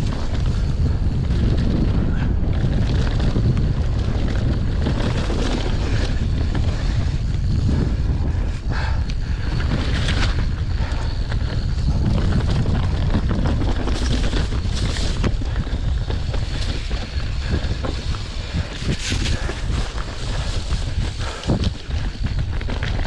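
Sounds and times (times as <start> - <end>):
bike rattling clicks: 0.0 - 23.0
wind buffeting microphone: 0.0 - 23.0.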